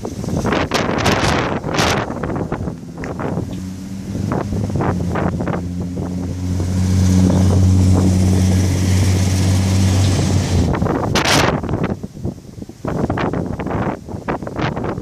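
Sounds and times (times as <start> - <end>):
loud rush of noise: 0.0 - 15.0
low engine hum: 0.0 - 15.0
wind buffeting microphone: 0.0 - 15.0.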